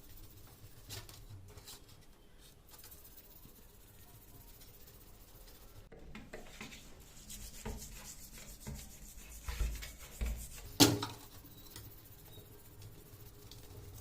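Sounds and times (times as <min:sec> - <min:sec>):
rubbing and scraping on metal parts: 0:00.0 - 0:14.0.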